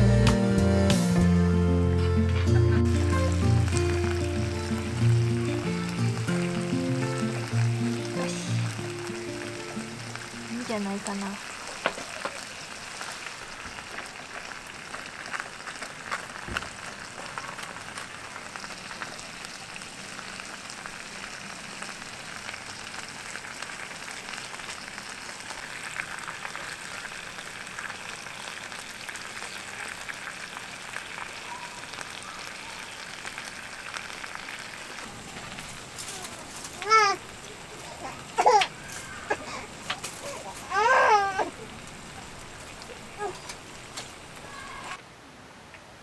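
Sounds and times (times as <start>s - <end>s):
food sizzling in a pan: 2.4s - 45.0s.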